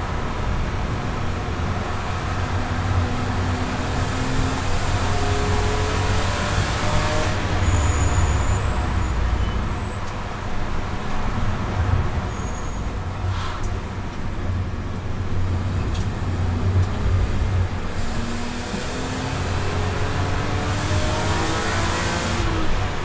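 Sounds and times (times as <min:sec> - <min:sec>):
car engine decelerating: 0:00.0 - 0:11.6, 0:15.6 - 0:23.0
road noise: 0:00.0 - 0:23.0.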